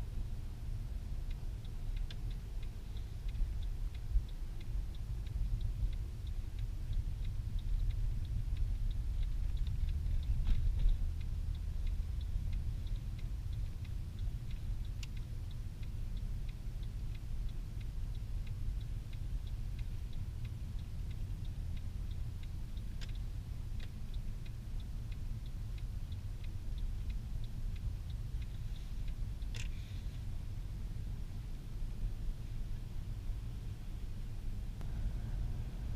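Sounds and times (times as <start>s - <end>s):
car engine and road rumble: 0.0s - 35.9s
turn signal ticking: 0.0s - 35.9s
sharp clicks: 1.3s - 31.6s.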